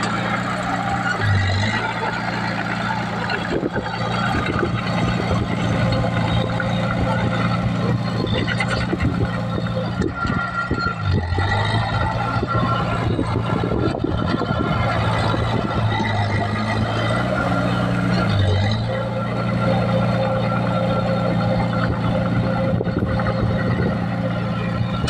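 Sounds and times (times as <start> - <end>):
bulldozer diesel engine: 0.0 - 25.0.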